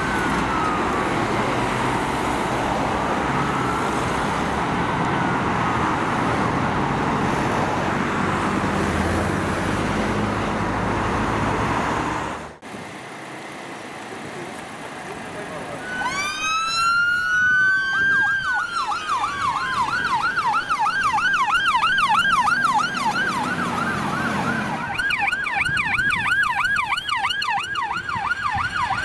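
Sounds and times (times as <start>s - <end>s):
faint siren wailing: 0.0s - 11.5s, 15.8s - 29.0s
road traffic noise: 0.0s - 29.0s.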